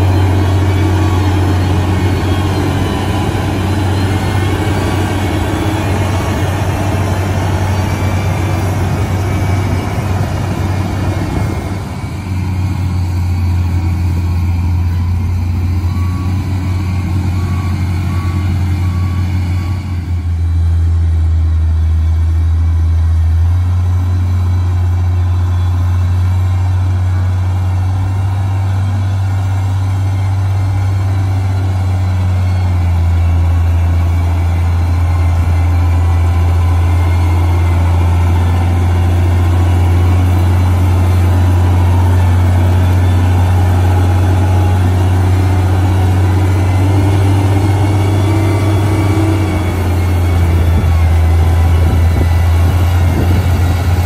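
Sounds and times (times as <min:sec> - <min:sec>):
heavy diesel engines running: 0:00.0 - 0:54.0
reversing alarm beeping: 0:00.0 - 0:54.0.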